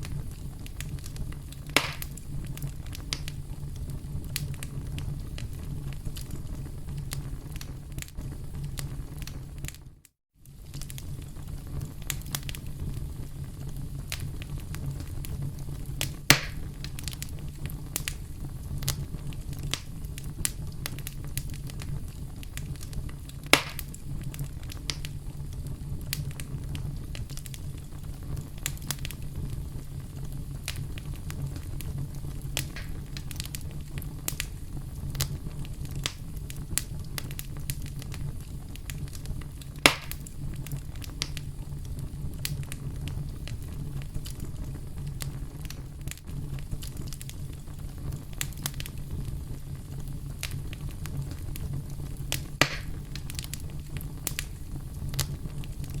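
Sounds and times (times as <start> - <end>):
loud fire pops: 0.0 - 56.0
wood fire crackling: 0.0 - 56.0.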